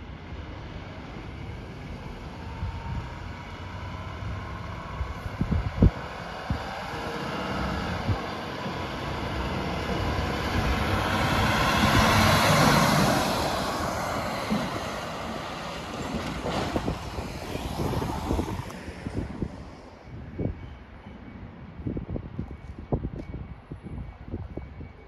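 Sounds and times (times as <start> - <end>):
fire engine diesel engine: 0.0 - 25.0
tyres on road: 0.0 - 25.0.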